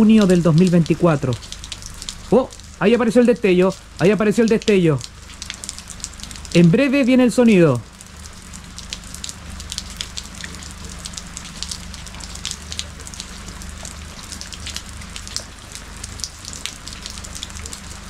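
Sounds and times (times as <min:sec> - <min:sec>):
low steady hum: 0:00.0 - 0:18.0
rain falling: 0:00.0 - 0:18.0
raindrops ticking: 0:00.0 - 0:18.0.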